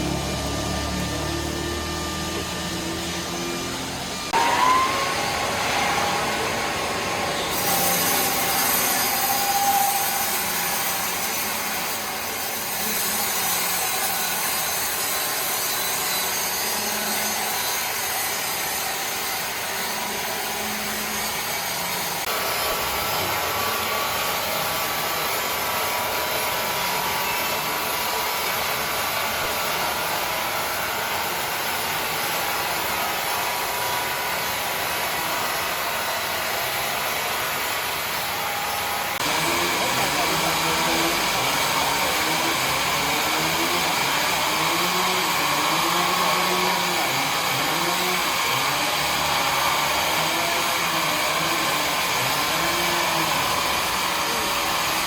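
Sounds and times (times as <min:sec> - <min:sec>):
power saw cutting timber: 0:00.0 - 0:55.0.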